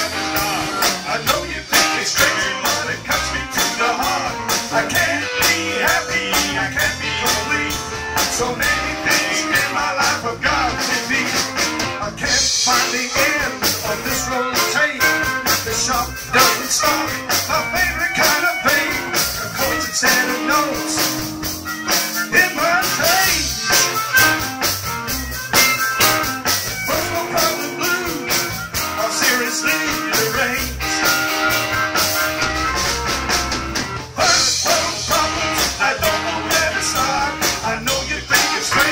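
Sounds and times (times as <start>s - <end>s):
harmonica: 0.0s - 11.5s, 12.3s - 38.9s
man singing: 0.0s - 21.3s, 22.2s - 24.0s, 26.8s - 31.2s, 34.2s - 38.9s
bass guitar: 0.0s - 38.9s
drum kit: 0.0s - 38.9s
electric guitars: 0.0s - 38.9s.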